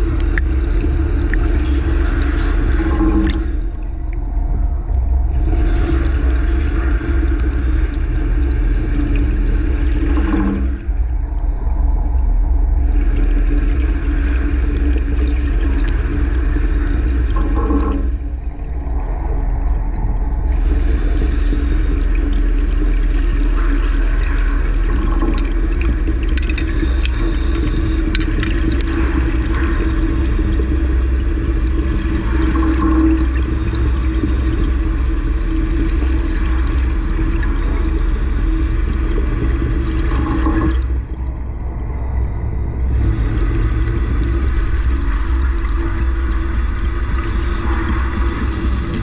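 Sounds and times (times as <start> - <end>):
bubbling gurgles: 0.0 - 49.0
low underwater rumble and hum: 0.0 - 49.0.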